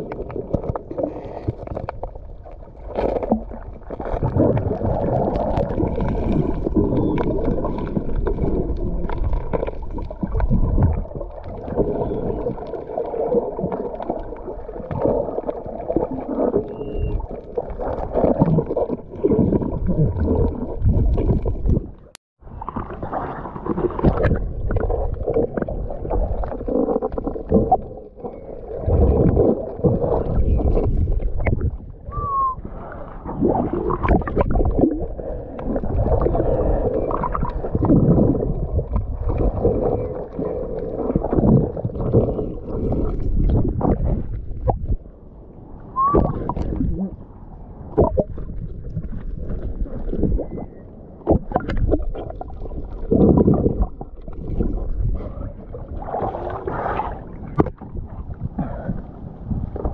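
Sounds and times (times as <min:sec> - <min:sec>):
muffled underwater sloshing and gurgling: 0:00.0 - 0:59.9.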